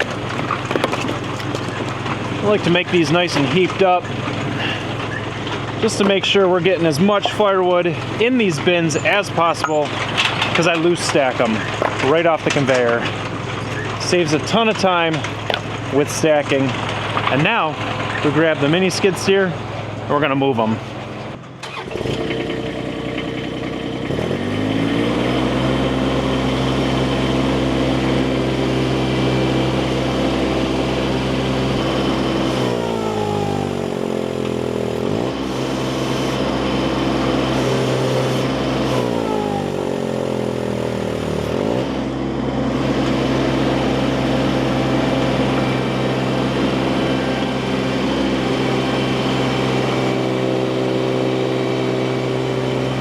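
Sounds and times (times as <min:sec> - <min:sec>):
skid steer engine revving: 0:00.0 - 0:53.0.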